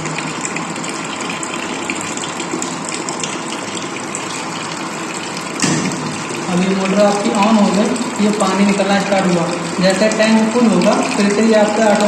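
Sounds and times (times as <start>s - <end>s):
water gushing from pump: 0.0s - 12.0s.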